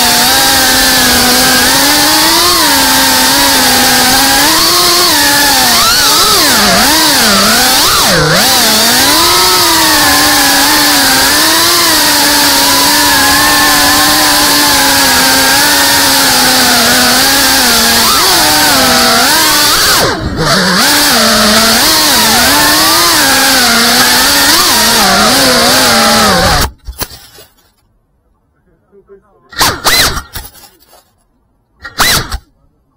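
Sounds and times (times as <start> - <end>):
drone motors and propellers whining: 0.0 - 26.8.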